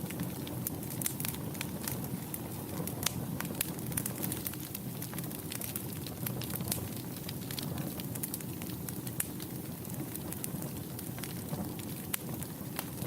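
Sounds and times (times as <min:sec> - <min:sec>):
fire crackles and pops: 0:00.0 - 0:13.0
low rumble of flame: 0:00.0 - 0:13.0.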